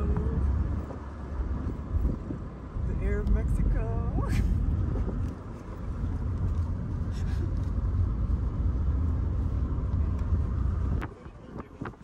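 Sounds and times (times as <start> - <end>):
moving car rumble: 0.0 - 12.0
road and wind noise: 0.0 - 12.0.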